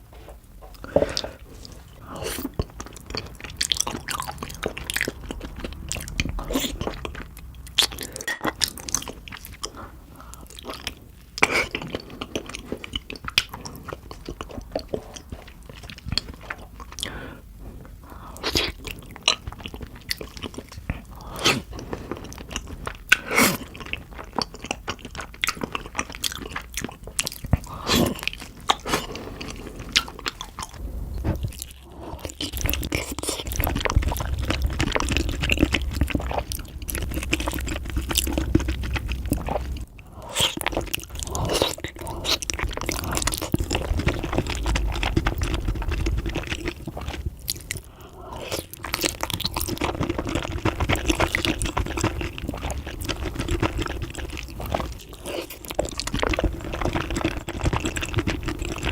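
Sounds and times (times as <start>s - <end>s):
wet chewing and crunching: 0.0s - 58.9s.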